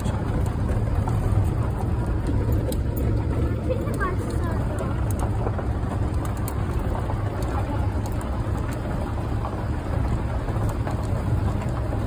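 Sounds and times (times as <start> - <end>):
vehicle rumbling on dirt track: 0.0 - 12.0.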